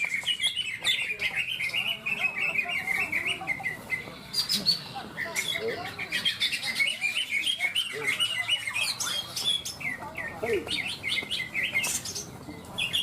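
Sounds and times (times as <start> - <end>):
birds singing chirps and whistles: 0.0 - 13.0.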